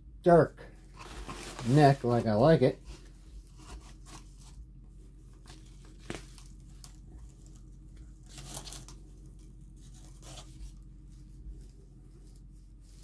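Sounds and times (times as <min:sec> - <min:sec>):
plastic bag and bubble wrap rustling: 0:00.8 - 0:13.0.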